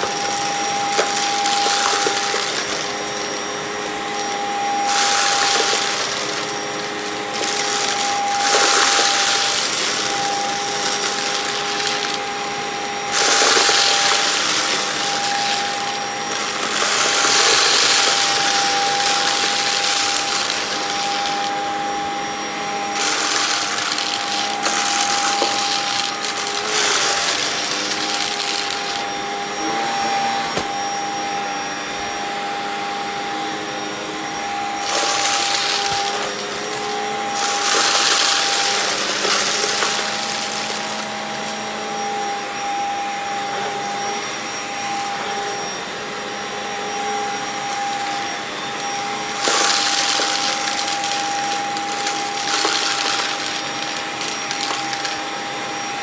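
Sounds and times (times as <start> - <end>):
vacuum cleaner whining: 0.0 - 56.0.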